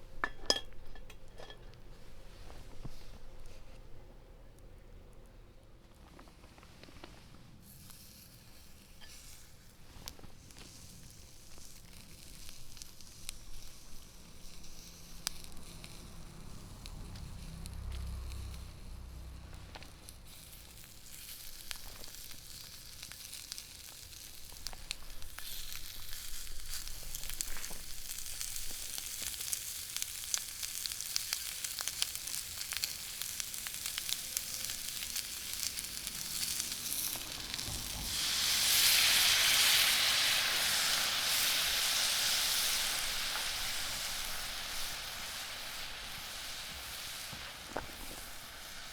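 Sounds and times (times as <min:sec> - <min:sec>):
chicken sizzling in a skillet: 0:07.6 - 0:48.9.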